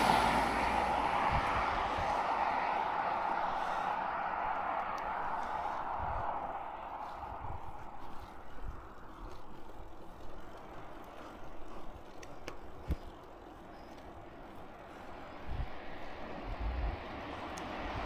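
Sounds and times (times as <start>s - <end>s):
road traffic noise: 0.0s - 18.0s
wind buffeting microphone: 0.0s - 18.0s.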